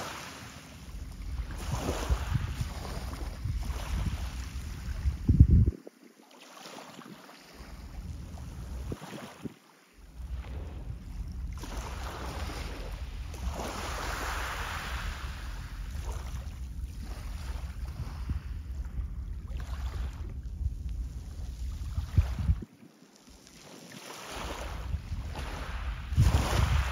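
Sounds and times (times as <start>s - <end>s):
wind buffeting microphone: 0.9s - 6.0s, 7.6s - 22.7s, 24.4s - 26.9s.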